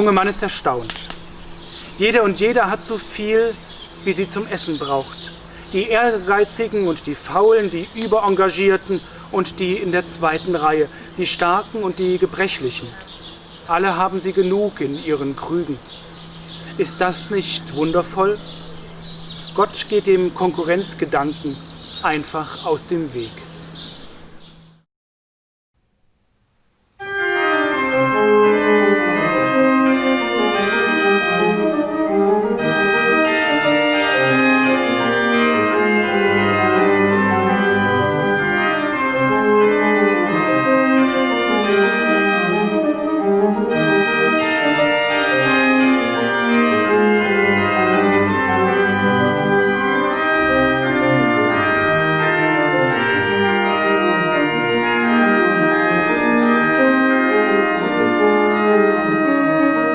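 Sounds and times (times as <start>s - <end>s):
organ music: 0.0s - 24.7s, 27.0s - 59.9s.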